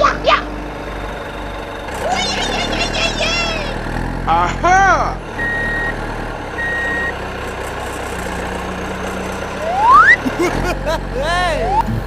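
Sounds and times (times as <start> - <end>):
engine hum: 0.0 - 12.0
truck reversing alarm beeping: 0.6 - 3.8, 5.3 - 12.0.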